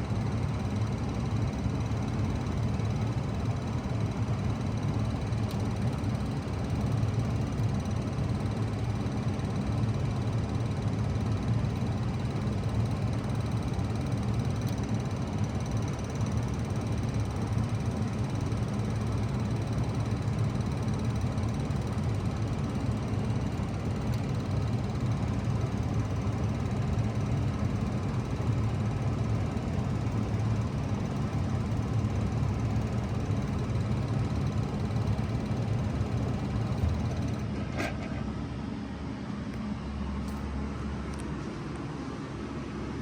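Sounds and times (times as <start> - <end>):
heat pump humming: 0.0 - 43.0.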